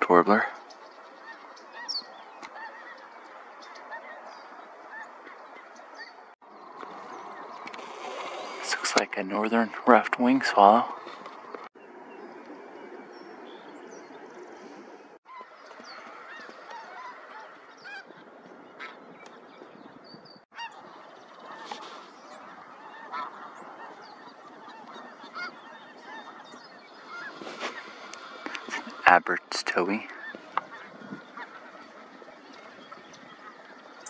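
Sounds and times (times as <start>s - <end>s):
geese honking: 0.0s - 14.7s, 15.3s - 19.6s, 20.5s - 34.0s.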